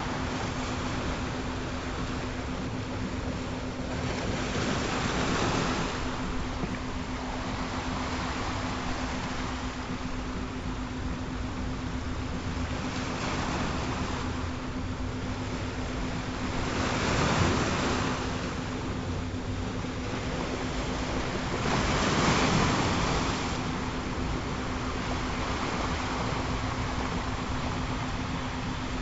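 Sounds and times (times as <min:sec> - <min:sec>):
ocean waves washing ashore: 0:00.0 - 0:29.0
steady low tone: 0:00.0 - 0:29.0.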